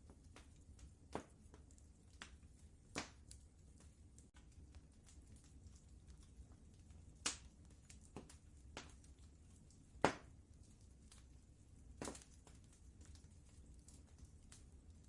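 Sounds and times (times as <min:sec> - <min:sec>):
fire pops: 0:00.0 - 0:15.0
low steady rumble: 0:00.0 - 0:15.0
wood fire crackling: 0:00.0 - 0:15.0.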